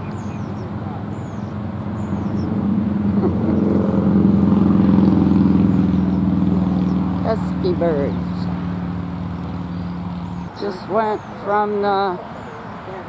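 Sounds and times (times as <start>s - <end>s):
vehicle engine hum passing: 0.0s - 13.0s.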